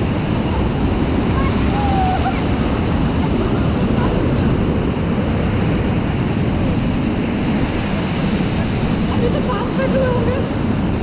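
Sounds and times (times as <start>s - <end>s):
rushing river water: 0.0s - 11.0s
wind buffeting microphone: 0.0s - 11.0s.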